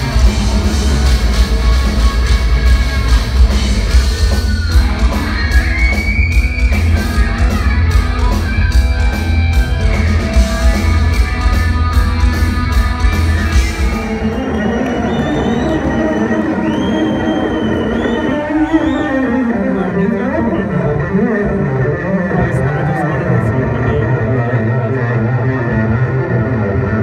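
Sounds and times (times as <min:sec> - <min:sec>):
metal band playing live: 0:00.0 - 0:27.0.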